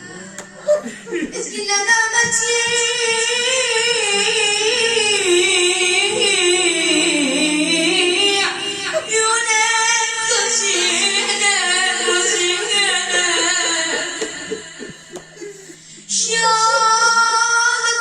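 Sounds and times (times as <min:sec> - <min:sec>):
person singing devotional song: 0:00.0 - 0:18.0.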